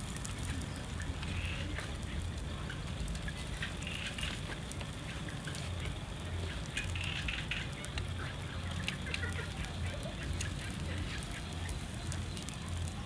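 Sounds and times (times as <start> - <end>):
fish sizzling over charcoal: 0.0 - 13.0.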